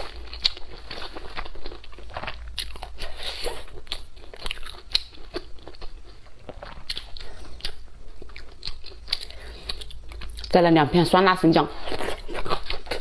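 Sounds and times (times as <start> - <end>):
close chewing with wet mouth noises: 0.0 - 10.6, 11.7 - 13.0.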